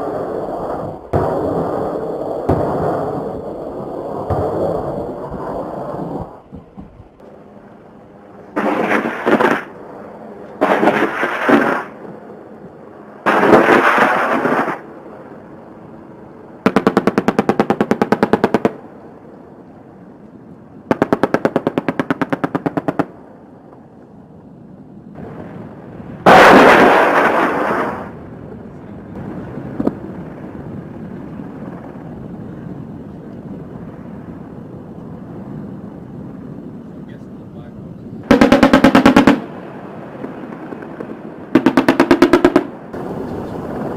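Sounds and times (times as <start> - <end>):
steady background noise: 0.0 - 43.9.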